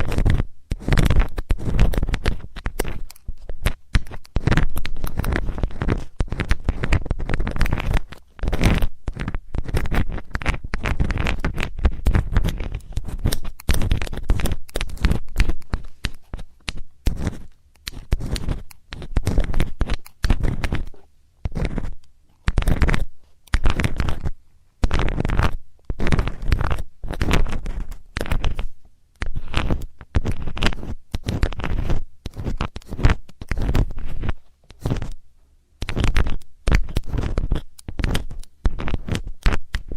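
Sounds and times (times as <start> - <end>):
metal tool scratching microphone: 0.0 - 35.2, 35.8 - 39.9.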